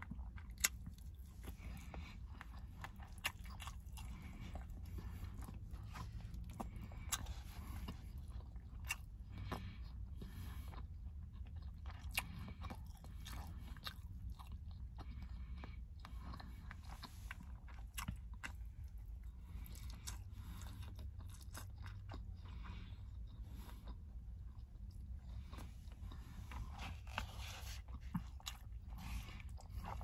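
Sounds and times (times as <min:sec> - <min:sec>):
person chewing and crunching food: 0:00.0 - 0:30.0.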